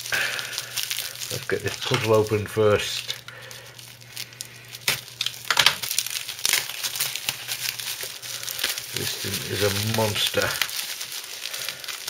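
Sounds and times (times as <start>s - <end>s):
bubble wrap crackling: 0.0s - 12.0s.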